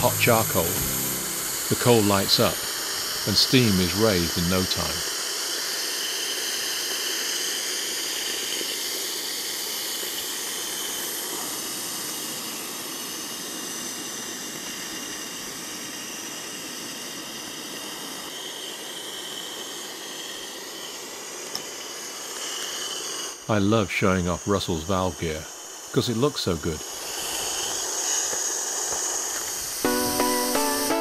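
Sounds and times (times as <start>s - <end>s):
steam blower hissing: 0.0s - 31.0s.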